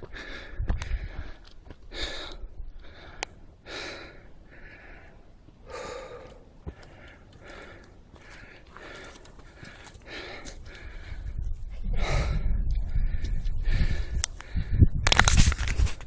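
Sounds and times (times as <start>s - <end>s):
heavy breathing: 0.0s - 14.9s.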